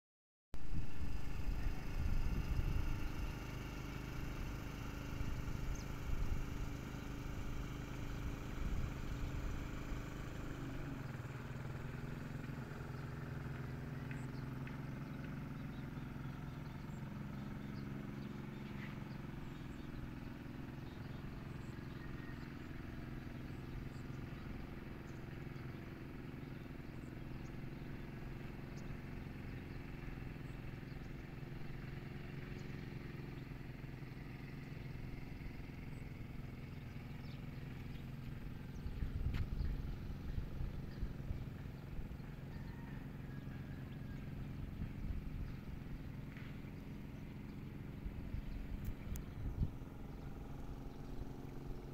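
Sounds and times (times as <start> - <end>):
engine humming: 0.6 - 51.9.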